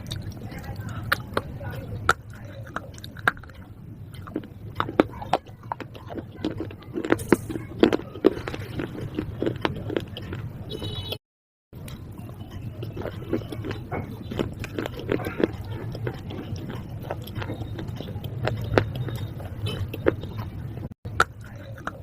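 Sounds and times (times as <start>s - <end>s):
crunchy food being chewed: 0.0s - 11.1s, 11.8s - 22.0s.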